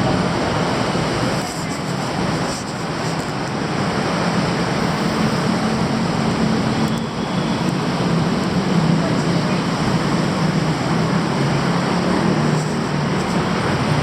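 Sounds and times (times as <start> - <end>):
city street traffic roar: 0.0 - 14.0.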